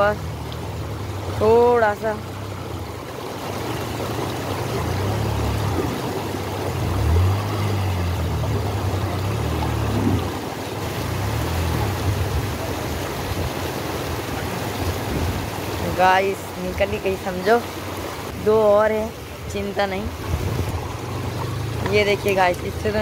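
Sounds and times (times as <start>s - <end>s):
river rushing: 0.0s - 23.0s
motorcycle engine revving: 3.8s - 18.7s, 19.4s - 23.0s.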